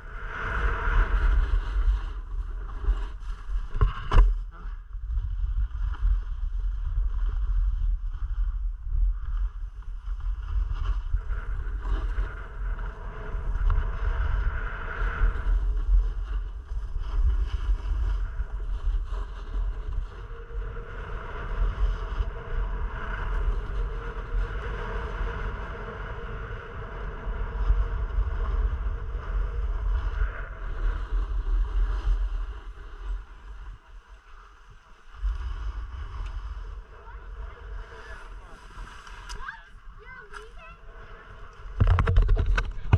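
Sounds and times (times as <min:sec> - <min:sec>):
wind buffeting microphone: 0:00.0 - 0:42.9
skis sliding on snow: 0:00.2 - 0:42.9.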